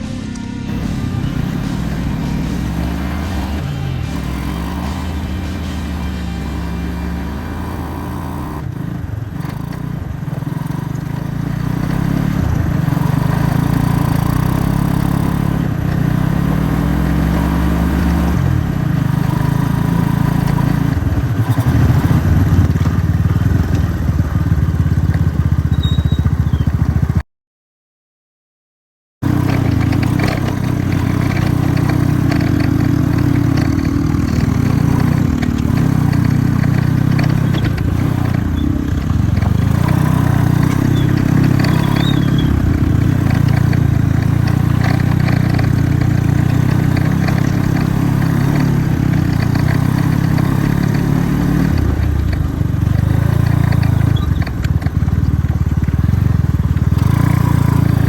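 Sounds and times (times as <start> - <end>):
small motorcycle engine running: 0.0 - 27.2, 29.2 - 58.0.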